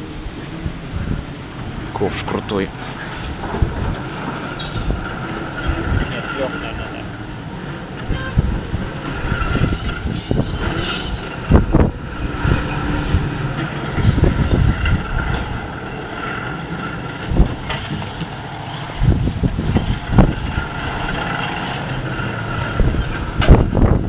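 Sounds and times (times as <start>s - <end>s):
low machinery rumble: 0.0s - 24.0s
truck engine: 0.0s - 24.0s.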